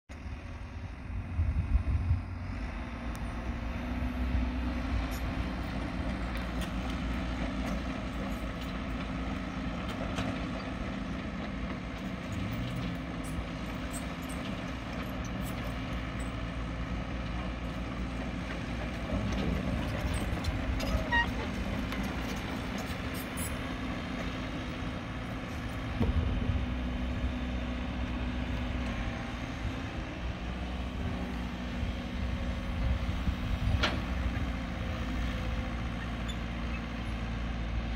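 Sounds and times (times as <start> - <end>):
diesel engines of excavator and truck: 0.1 - 37.9.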